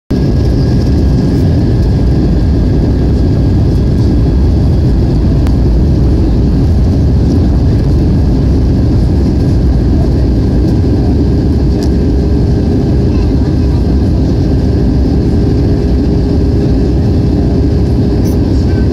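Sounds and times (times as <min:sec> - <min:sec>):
jet engine and airflow rumble: 0:00.1 - 0:18.9.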